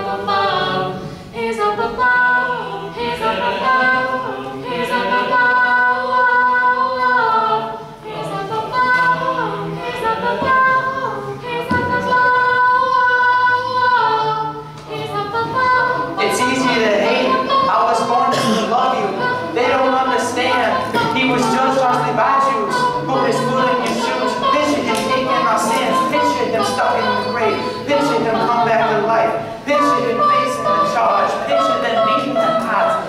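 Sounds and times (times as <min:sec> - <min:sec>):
a cappella group singing: 0:00.0 - 0:33.0.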